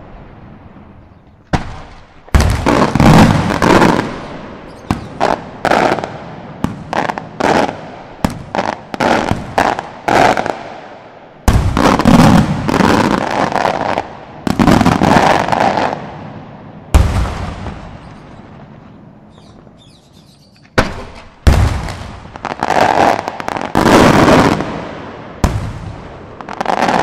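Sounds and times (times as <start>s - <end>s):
firework bangs echoing: 1.5s - 27.0s.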